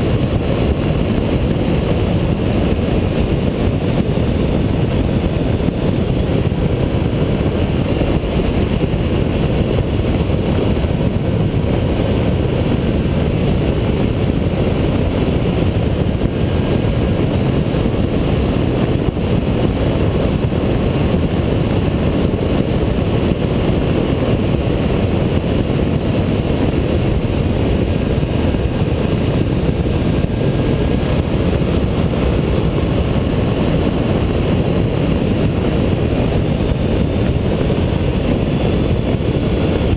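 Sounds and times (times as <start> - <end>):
motorcycle engine roar: 0.0 - 39.9
wind rushing over camera: 0.0 - 39.9.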